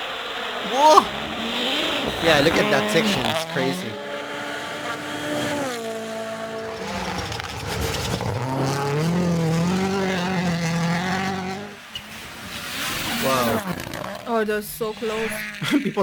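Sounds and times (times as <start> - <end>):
rally car engine revving: 0.0 - 14.3.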